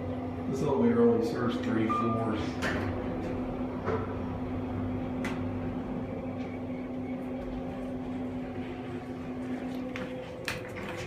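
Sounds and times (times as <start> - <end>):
elevator hum: 0.0 - 11.0.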